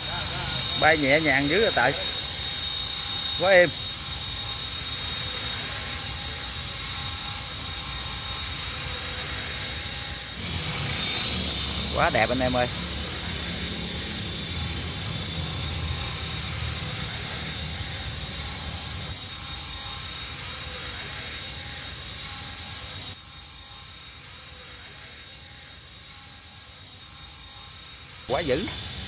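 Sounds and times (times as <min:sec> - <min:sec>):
rotor and wind noise: 0:00.0 - 0:24.5, 0:25.2 - 0:29.0
model helicopter whine: 0:00.0 - 0:29.0.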